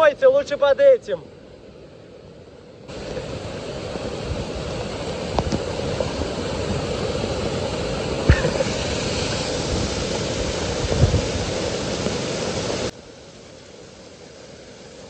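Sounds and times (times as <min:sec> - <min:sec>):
waterfall rushing: 0:02.9 - 0:15.0.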